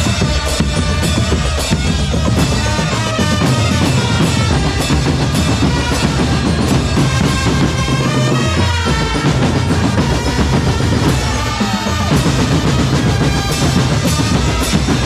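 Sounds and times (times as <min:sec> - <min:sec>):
bass drum beating: 0:00.0 - 0:15.0
snare drum beating: 0:00.0 - 0:15.0.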